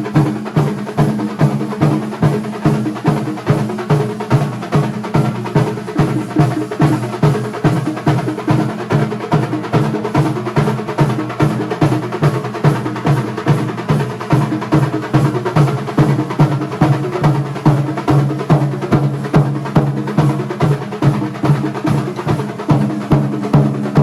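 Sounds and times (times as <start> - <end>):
percussion band drumming: 0.0 - 24.0.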